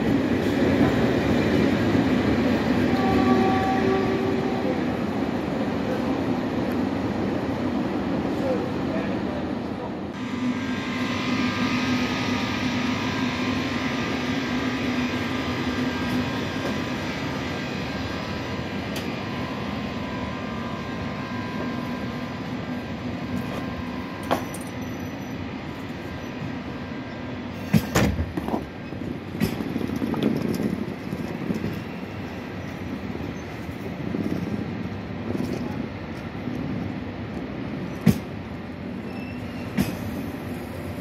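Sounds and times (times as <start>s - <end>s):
electric train hum: 0.0s - 41.0s.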